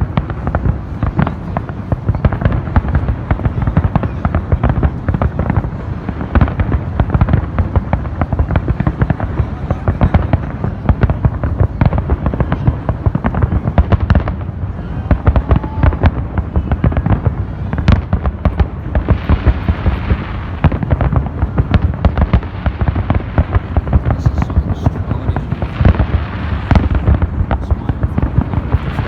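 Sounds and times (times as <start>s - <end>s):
fireworks bangs: 0.0s - 29.0s
fireworks crackling hiss: 0.0s - 29.0s.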